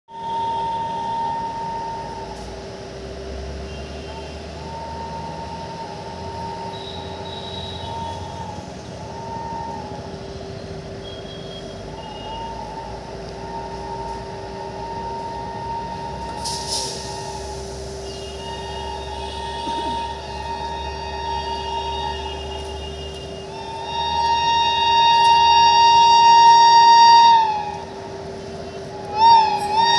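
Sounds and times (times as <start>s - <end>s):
electric locomotive hum: 0.1s - 29.9s.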